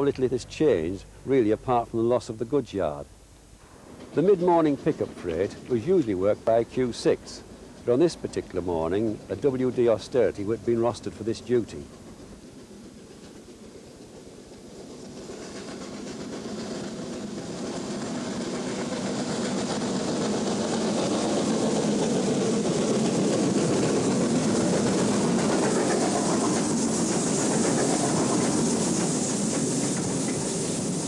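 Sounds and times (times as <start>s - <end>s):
steam locomotive hauling train: 0.0s - 31.0s
steam hissing: 3.6s - 31.0s.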